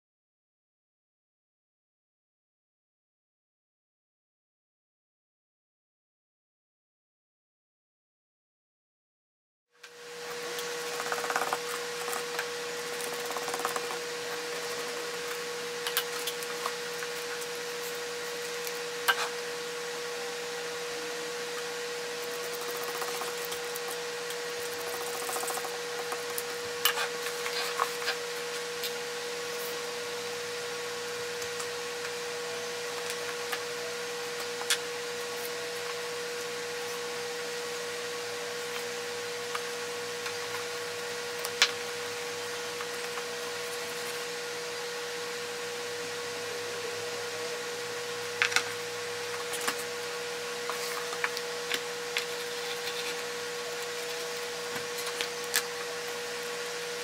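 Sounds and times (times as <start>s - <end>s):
constant hum: 9.8s - 57.0s.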